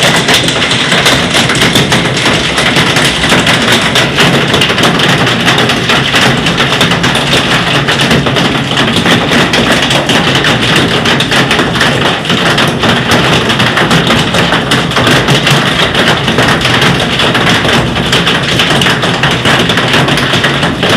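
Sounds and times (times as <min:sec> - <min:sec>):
hailstones pelting down: 0:00.0 - 0:20.9.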